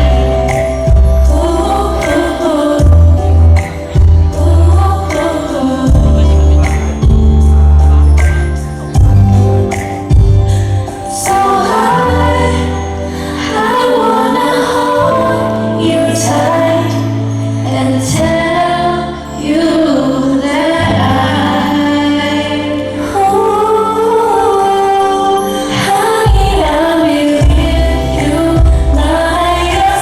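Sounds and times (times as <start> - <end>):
woman singing: 0.0 - 8.6, 10.7 - 30.0
amplified backing music: 0.0 - 30.0.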